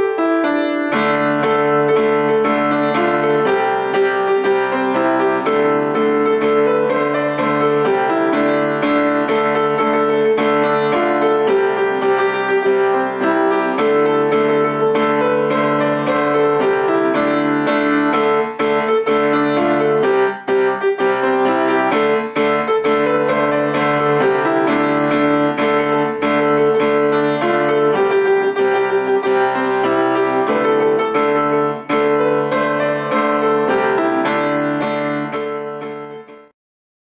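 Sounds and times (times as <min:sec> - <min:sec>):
piano music: 0:00.0 - 0:36.6.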